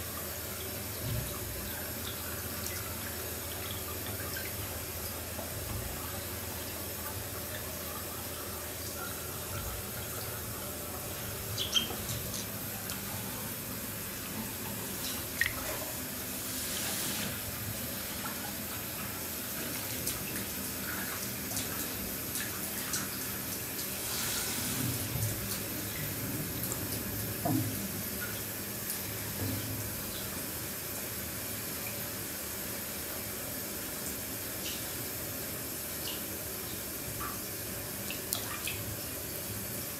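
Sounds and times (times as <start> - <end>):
water splashing and sloshing: 0.0 - 30.6, 37.0 - 39.9.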